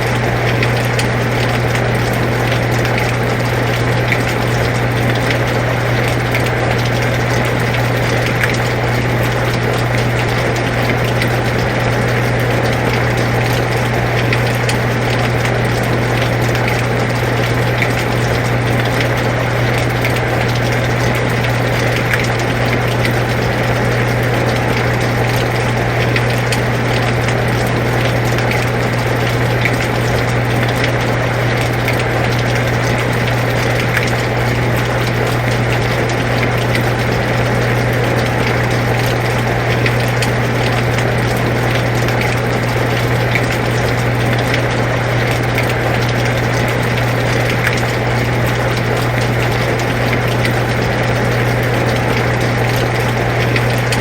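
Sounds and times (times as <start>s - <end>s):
air conditioner humming: 0.0s - 54.0s
steady rain: 0.0s - 54.0s.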